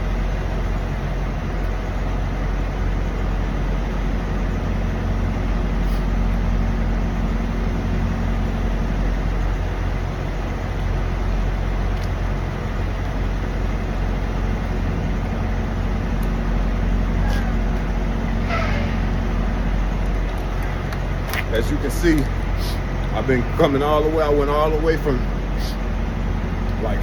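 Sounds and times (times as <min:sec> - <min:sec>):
diesel truck engines idling: 0:00.0 - 0:27.0.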